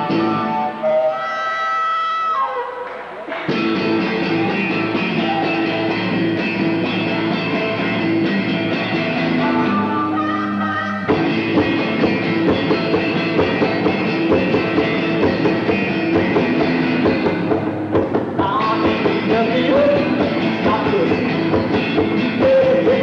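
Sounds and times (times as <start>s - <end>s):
electric guitar chords: 0.0s - 23.0s
rock band with drums: 0.0s - 23.0s.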